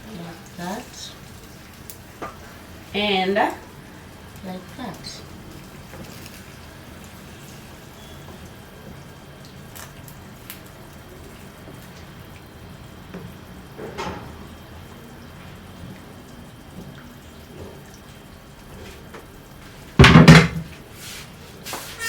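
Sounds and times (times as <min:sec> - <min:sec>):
stew bubbling in a pot: 0:00.0 - 0:22.0.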